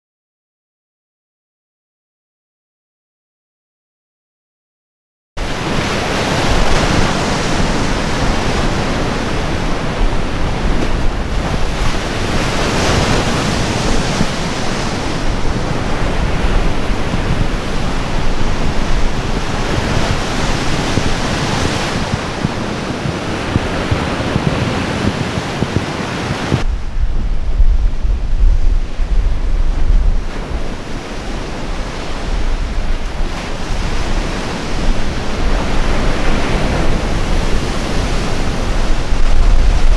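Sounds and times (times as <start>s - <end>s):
waves crashing against concrete: 5.4s - 26.7s, 27.5s - 39.9s
wind buffeting microphone: 5.4s - 39.9s.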